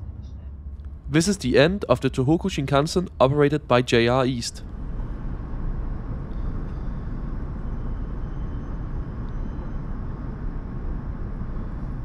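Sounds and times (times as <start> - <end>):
faint steady whine: 0.0 - 12.0
train low rumble: 0.0 - 12.0.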